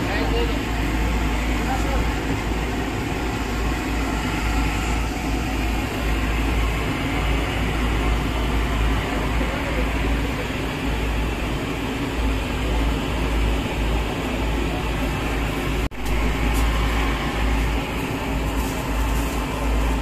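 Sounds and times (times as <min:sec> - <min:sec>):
machine rumble and hiss: 0:00.0 - 0:20.0.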